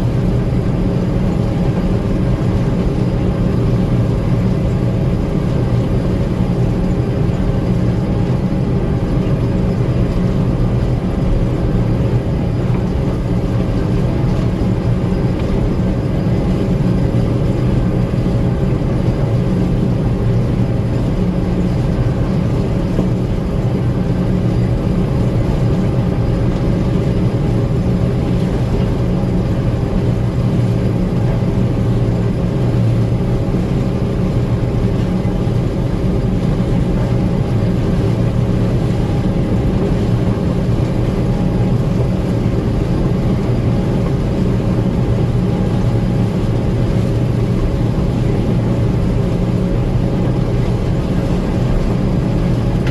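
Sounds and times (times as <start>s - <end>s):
combine harvester engine droning: 0.0s - 52.9s.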